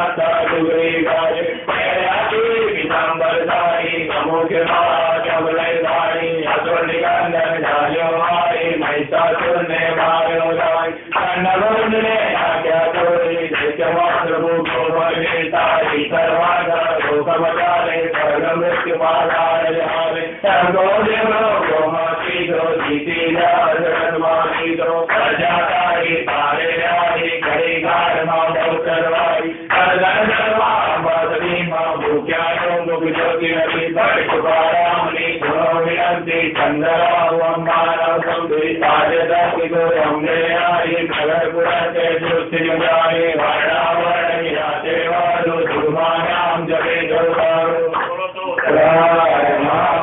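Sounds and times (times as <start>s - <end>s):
man chanting a hymn: 0.0s - 50.0s.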